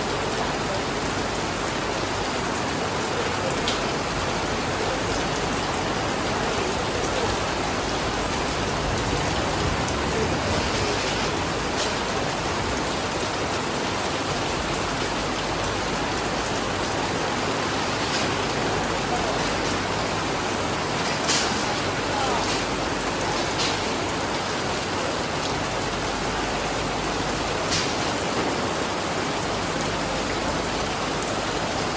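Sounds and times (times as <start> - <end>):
steady rain falling: 0.0 - 31.9
water drips and splashes: 0.0 - 31.9.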